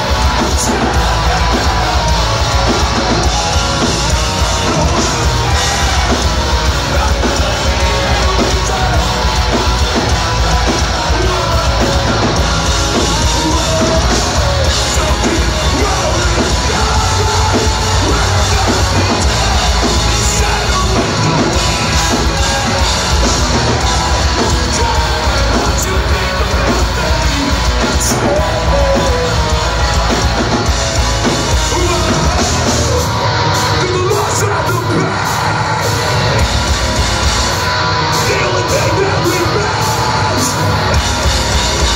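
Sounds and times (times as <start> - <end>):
distorted guitars: 0.0 - 41.9
drums: 0.0 - 41.9
shouted vocals: 0.0 - 41.9.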